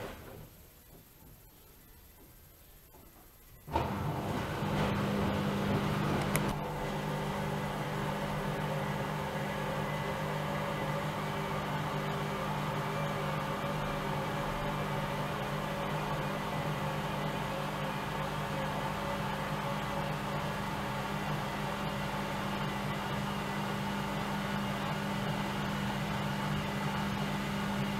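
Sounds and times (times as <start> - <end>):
washing machine humming: 3.6 - 27.9.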